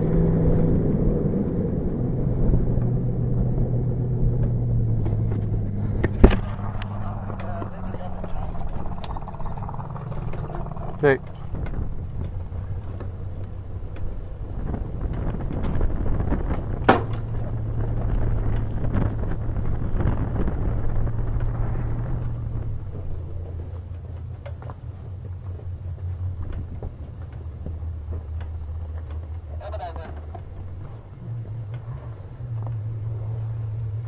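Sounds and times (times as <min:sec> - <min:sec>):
low vehicle rumble: 0:00.0 - 0:34.0
wind noise on microphone: 0:00.0 - 0:34.0.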